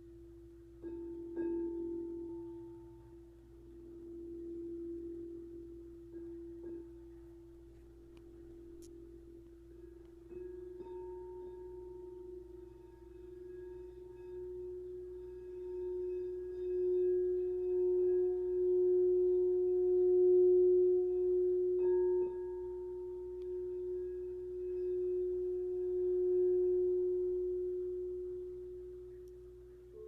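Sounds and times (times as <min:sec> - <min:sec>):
singing bowl ringing: 0:00.0 - 0:30.0.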